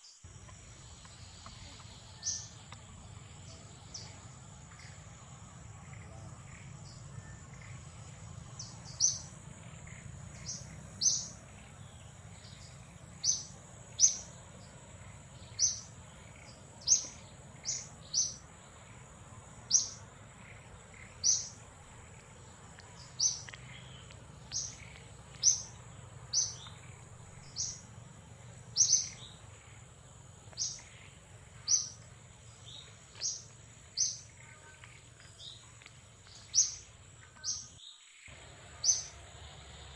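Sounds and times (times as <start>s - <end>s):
steady high whine: 0.2s - 37.1s.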